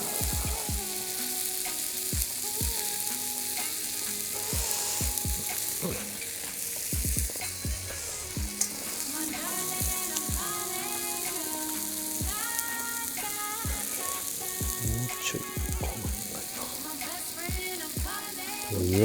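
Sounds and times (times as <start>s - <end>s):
chicken sizzling on a griddle: 0.0s - 19.0s.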